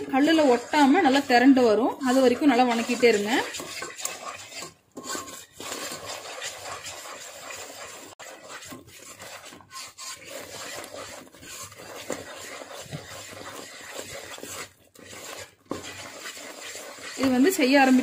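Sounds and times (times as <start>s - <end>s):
wooden spatula scraping pan: 0.0s - 18.0s.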